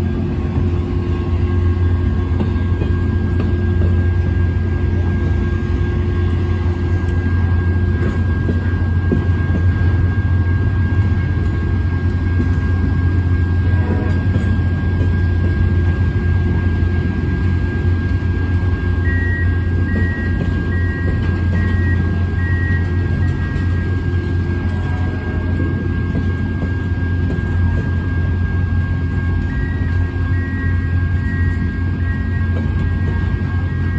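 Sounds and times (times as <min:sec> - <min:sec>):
freight train rumbling: 0:00.0 - 0:33.9
high whine: 0:00.0 - 0:33.9.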